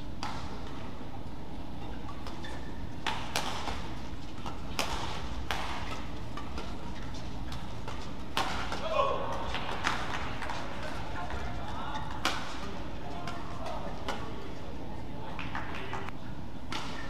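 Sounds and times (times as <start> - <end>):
low hall noise: 0.0 - 17.0
rackets hitting shuttlecock: 0.1 - 0.9, 1.8 - 14.5, 16.7 - 17.0.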